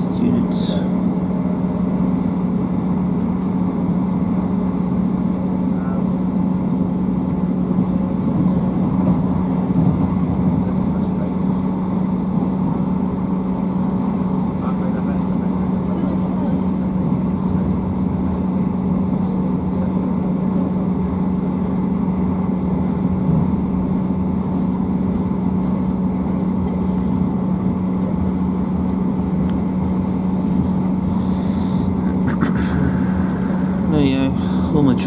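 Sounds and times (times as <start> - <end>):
rumbling running noise: 0.0 - 35.0
train low drone: 0.0 - 35.0.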